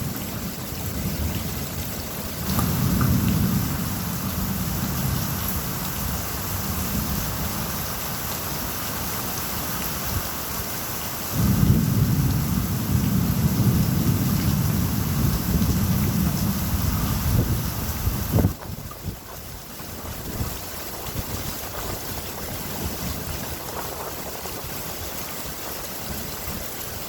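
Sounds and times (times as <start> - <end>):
thunder rumbling: 0.0 - 8.0, 11.3 - 27.0
steady rain: 0.0 - 27.0.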